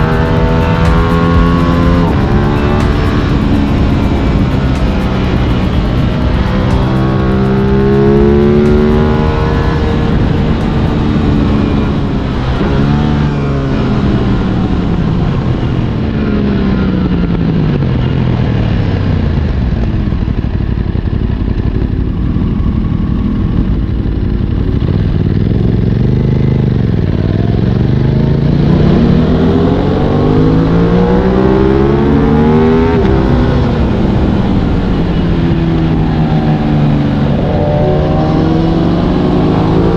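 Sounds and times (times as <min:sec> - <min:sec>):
wind rush: 0:00.0 - 0:25.4, 0:28.4 - 0:39.9
motorcycle engine revving: 0:00.0 - 0:39.9.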